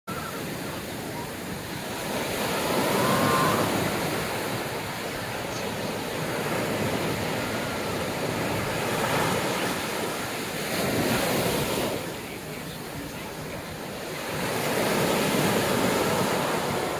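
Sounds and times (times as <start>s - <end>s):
surf breaking on a beach: 0.1s - 16.9s.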